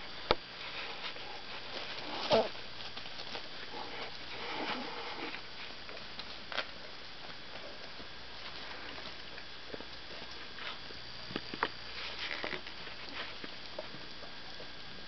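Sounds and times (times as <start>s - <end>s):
puppies pattering on blanket: 0.3s - 15.0s.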